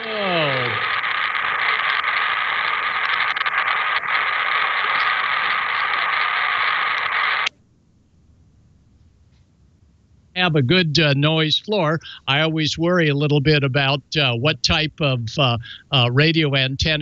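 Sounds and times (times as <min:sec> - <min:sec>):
radio static hiss: 0:00.0 - 0:07.5, 0:10.4 - 0:17.0.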